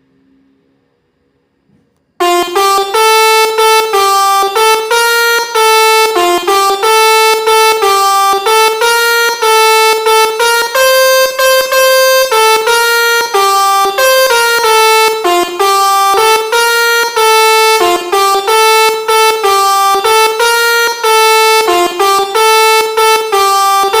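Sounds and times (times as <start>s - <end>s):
musical air horn playing a tune: 2.2s - 24.0s.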